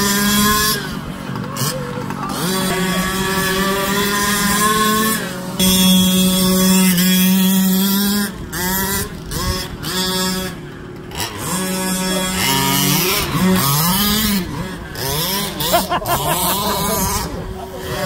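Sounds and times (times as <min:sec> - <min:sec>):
small two-stroke engines revving: 0:00.0 - 0:18.0.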